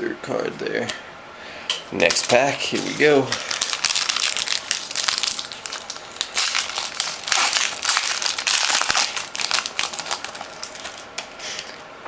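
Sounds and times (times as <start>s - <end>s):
foil wrapper tearing and crinkling: 2.1s - 11.8s.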